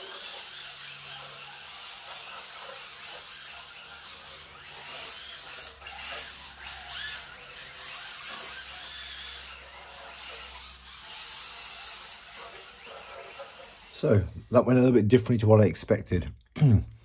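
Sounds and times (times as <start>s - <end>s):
rc car electric motors whining: 0.0s - 14.5s.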